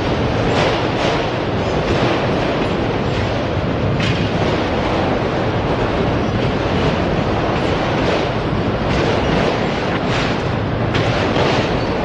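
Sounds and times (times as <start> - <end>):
faint rail clacks: 0.0 - 12.0
freight train rumbling on rails: 0.0 - 12.0.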